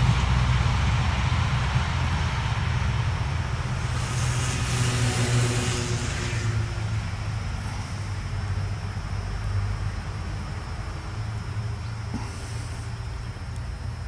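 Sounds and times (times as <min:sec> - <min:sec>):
diesel locomotive droning: 0:00.0 - 0:14.0
rushing hiss: 0:01.6 - 0:14.0.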